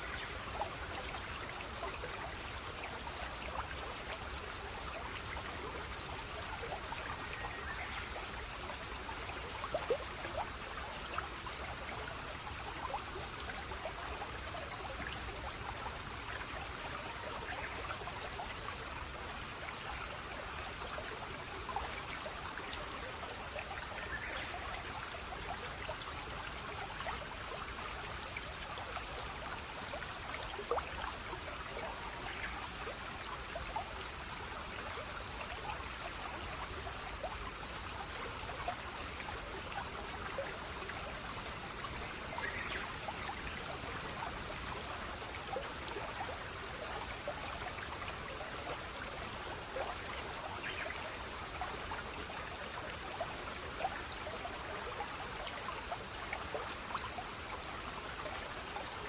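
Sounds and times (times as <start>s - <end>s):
stream trickling and burbling: 0.0s - 59.0s.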